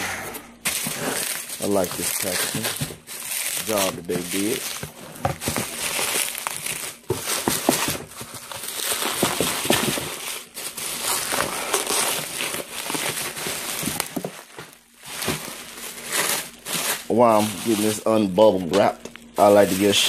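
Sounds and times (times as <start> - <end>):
bubble wrap crinkling: 0.5 - 20.0.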